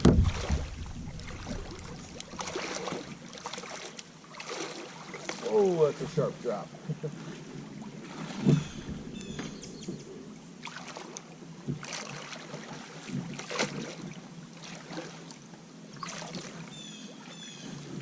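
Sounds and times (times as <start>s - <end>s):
water rushing: 0.0s - 17.6s
kayak paddle splashing in water: 0.0s - 18.0s.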